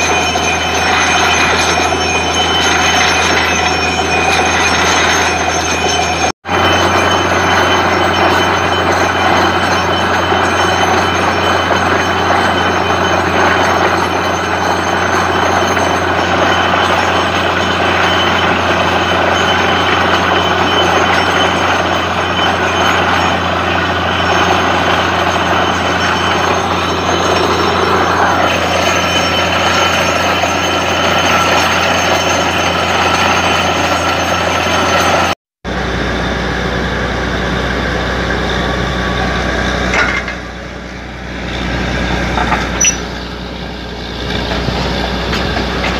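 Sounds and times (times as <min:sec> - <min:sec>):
drilling rig running: 0:00.0 - 0:45.9.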